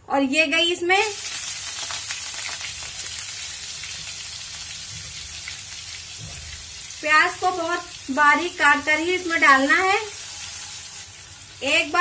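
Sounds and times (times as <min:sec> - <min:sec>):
onion sizzling in a frying pan: 0:00.5 - 0:12.0.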